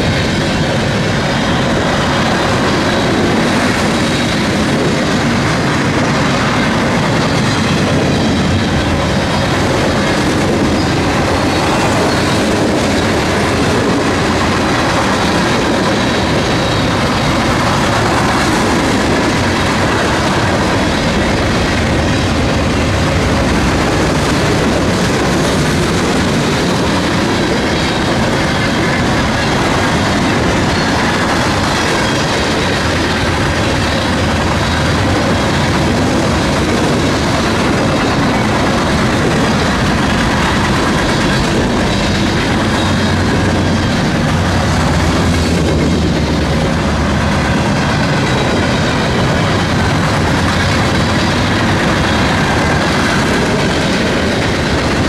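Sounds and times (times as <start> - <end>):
train wheels clattering over track: 0.0 - 55.0.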